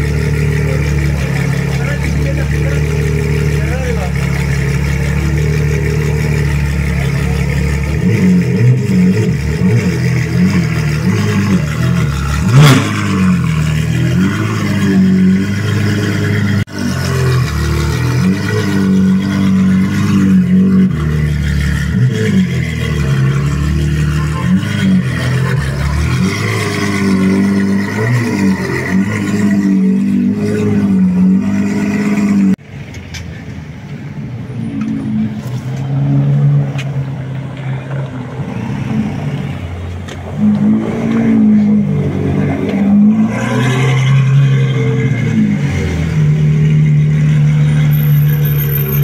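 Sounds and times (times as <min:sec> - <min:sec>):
sports car engine revving: 0:00.0 - 0:32.6, 0:34.7 - 0:49.0.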